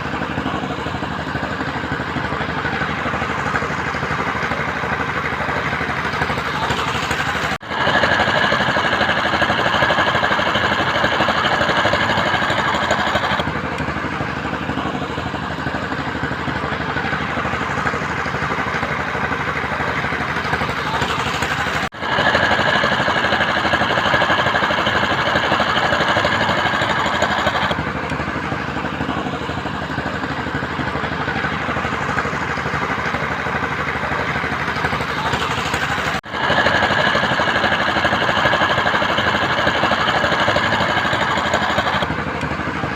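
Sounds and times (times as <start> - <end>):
construction machinery engine rattling: 0.0 - 42.9.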